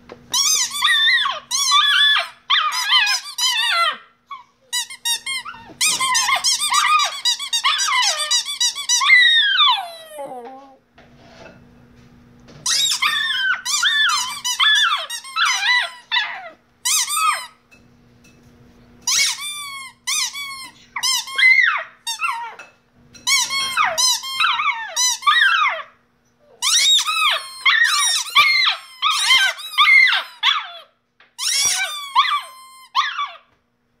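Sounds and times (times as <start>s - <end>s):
squeaky dog toy squeaking: 0.3s - 10.3s, 12.6s - 17.6s, 19.0s - 25.8s, 26.5s - 30.8s, 31.4s - 33.4s.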